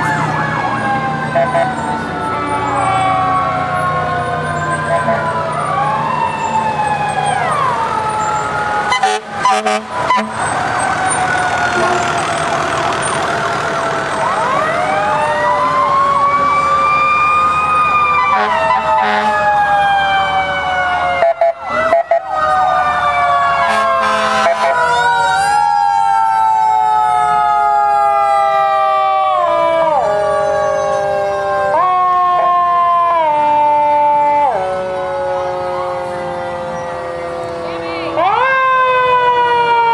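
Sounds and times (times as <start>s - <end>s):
emergency vehicle sirens wailing: 0.0s - 39.9s.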